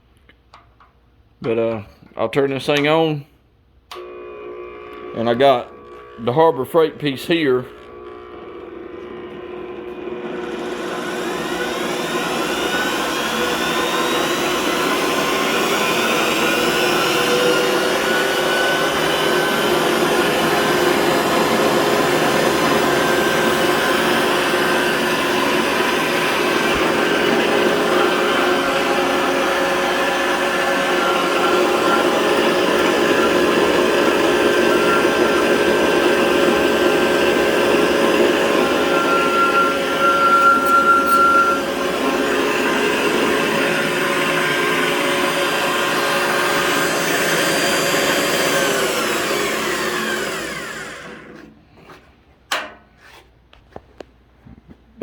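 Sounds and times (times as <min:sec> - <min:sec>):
wood lathe motor whining: 0:03.9 - 0:51.6.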